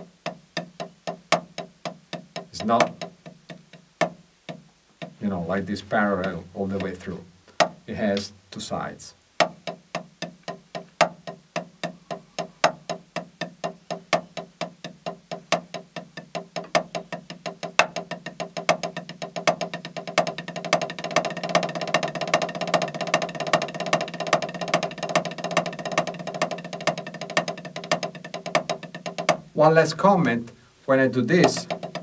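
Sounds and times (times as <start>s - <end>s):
drumsticks on practice pad: 0.0s - 8.7s, 9.4s - 29.6s, 31.2s - 32.0s.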